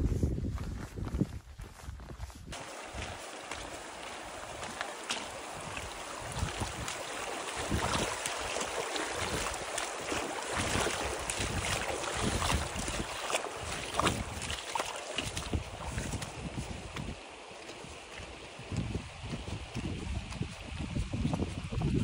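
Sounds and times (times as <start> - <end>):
footsteps splashing in stream: 2.5 - 22.0
stream water rushing: 2.6 - 20.8.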